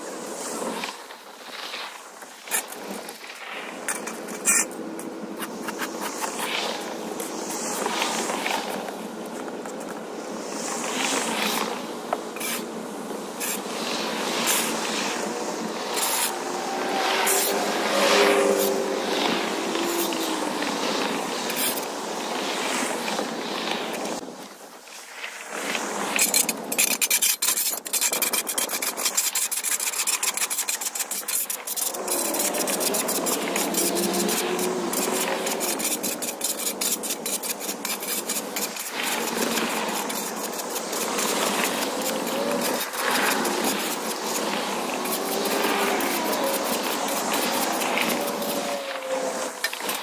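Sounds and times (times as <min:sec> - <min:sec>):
shovel scraping on concrete: 0:02.2 - 0:10.0, 0:10.8 - 0:12.7, 0:13.4 - 0:21.9, 0:25.3 - 0:50.0.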